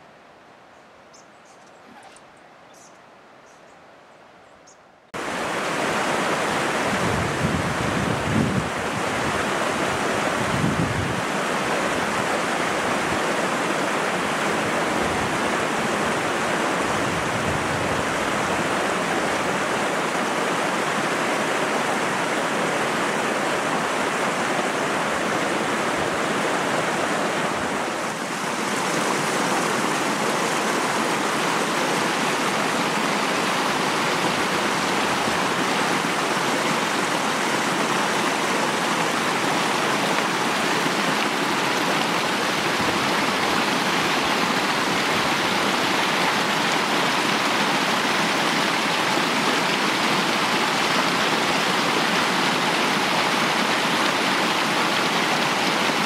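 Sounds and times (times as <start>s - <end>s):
river water rushing: 5.1s - 56.0s.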